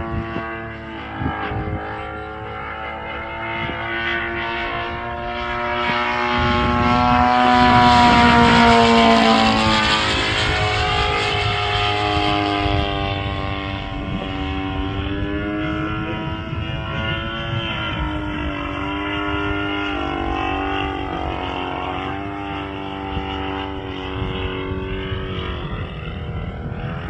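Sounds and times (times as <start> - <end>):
model plane engine drone: 0.0 - 27.0.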